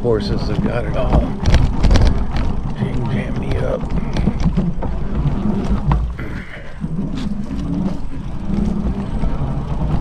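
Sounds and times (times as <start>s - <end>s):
e-bike motor rumble and hum: 0.0s - 10.0s
sharp knocks from bumps: 0.5s - 10.0s.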